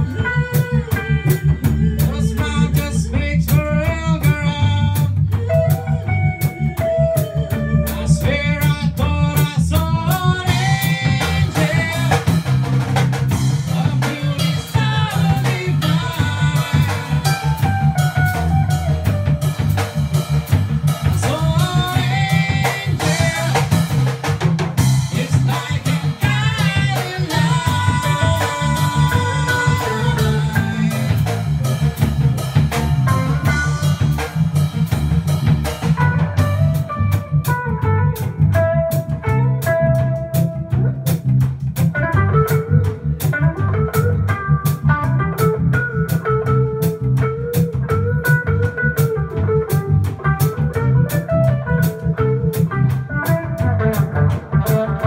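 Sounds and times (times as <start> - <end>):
bass guitar: 0.0 - 55.0
drum kit: 0.0 - 55.0
guitar melody: 0.0 - 55.0.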